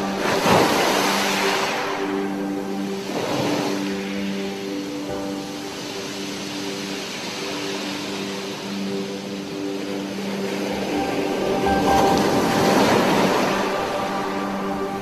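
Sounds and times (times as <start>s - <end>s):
ambient sustained-note music: 0.0s - 15.0s.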